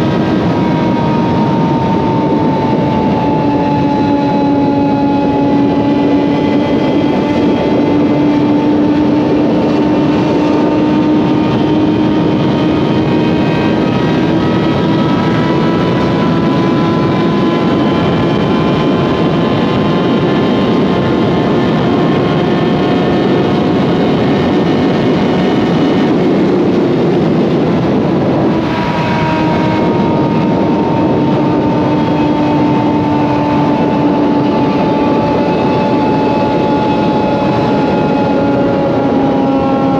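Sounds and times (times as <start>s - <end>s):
motorcycle engine at highway speed: 0.0s - 39.9s
wind rushing over microphone: 0.0s - 39.9s.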